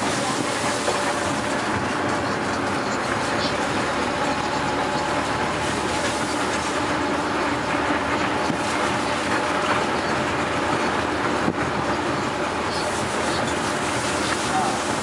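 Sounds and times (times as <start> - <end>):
minibus engine and road noise: 0.0 - 15.0.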